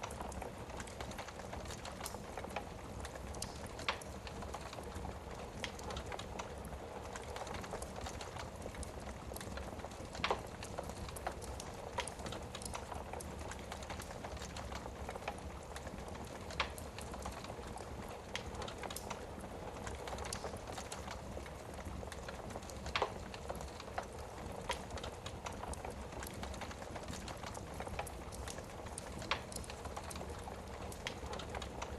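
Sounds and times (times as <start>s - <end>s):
fire hissing and fluttering: 0.0s - 31.9s
logs crackling and popping: 0.0s - 31.9s.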